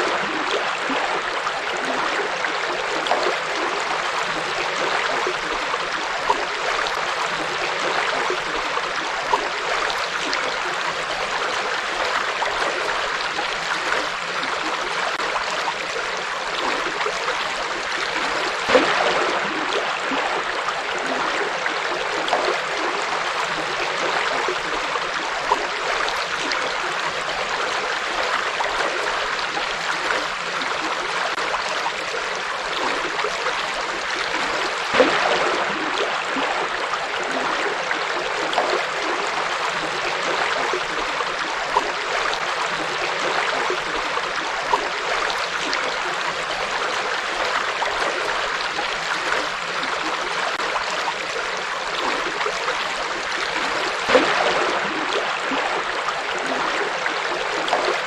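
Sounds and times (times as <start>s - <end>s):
stream flowing over rocks: 0.0s - 58.0s
water splashes and gurgles: 0.0s - 58.0s.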